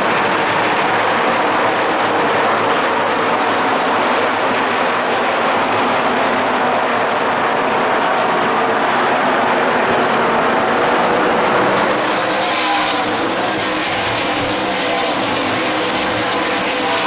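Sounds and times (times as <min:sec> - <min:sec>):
race trucks engines roaring: 0:00.0 - 0:17.0.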